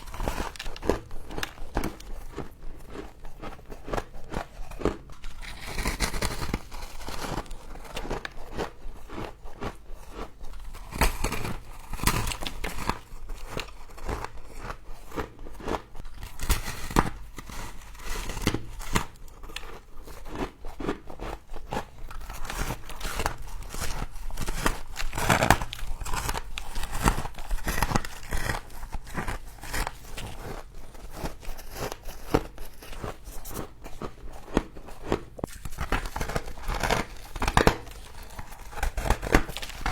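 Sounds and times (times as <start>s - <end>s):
frost crunching and crackling: 0.0s - 21.0s, 21.8s - 39.9s.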